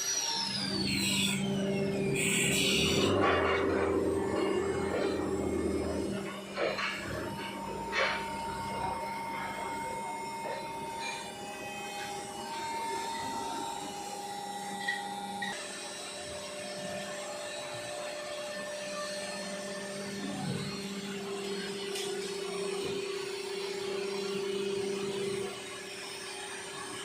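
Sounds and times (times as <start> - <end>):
electric machinery whine and hum: 0.0 - 27.0.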